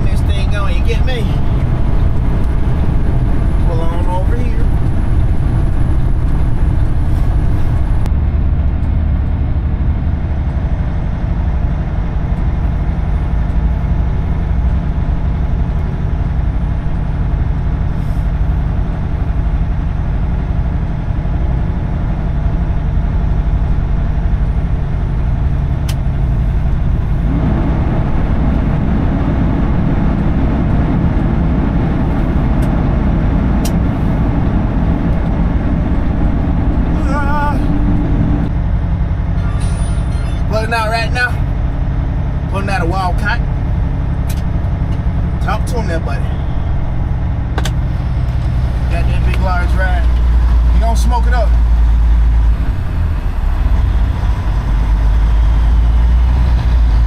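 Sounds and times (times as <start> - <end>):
diesel engine drone: 0.0 - 57.0
road noise: 0.0 - 57.0.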